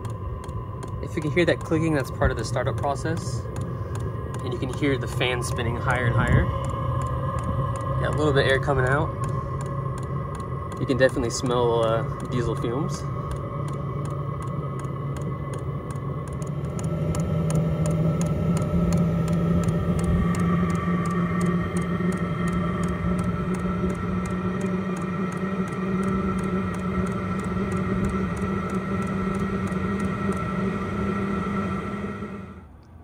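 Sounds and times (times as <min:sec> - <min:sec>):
fuel pump clicking: 0:00.0 - 0:29.8
heater blower fan humming: 0:00.0 - 0:33.0.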